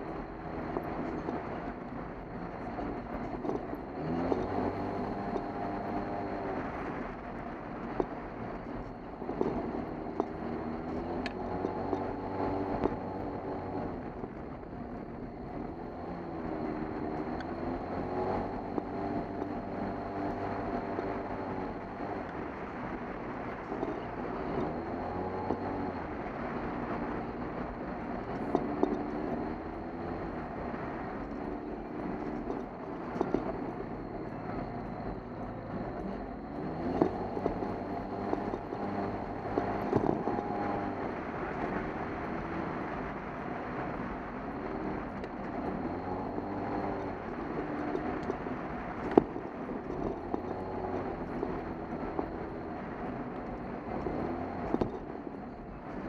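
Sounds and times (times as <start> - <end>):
engine running under throttle: 0.0 - 56.0
road noise: 0.0 - 56.0.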